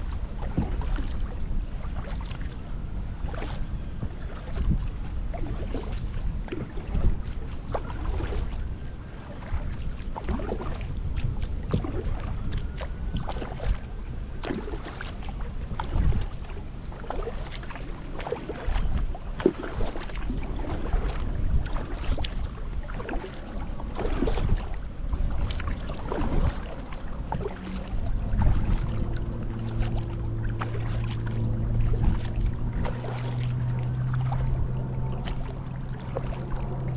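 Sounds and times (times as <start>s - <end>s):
paddle splashing in water: 0.0s - 36.9s
steady low hum: 0.0s - 36.9s
wind rumble on microphone: 0.0s - 36.9s.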